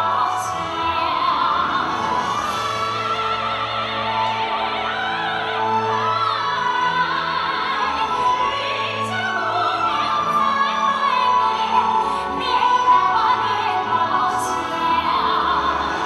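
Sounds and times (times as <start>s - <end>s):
orchestral accompaniment: 0.0s - 16.0s
person singing with vibrato: 0.0s - 16.0s.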